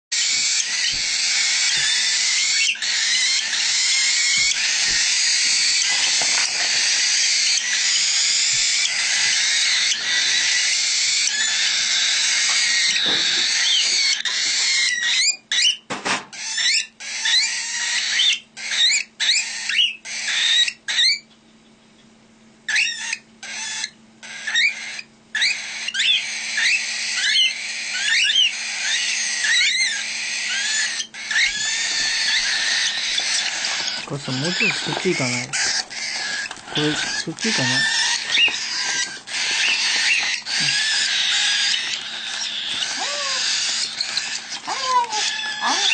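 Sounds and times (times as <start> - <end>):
chicks rasping begging calls: 0.2 - 21.7, 22.6 - 45.9.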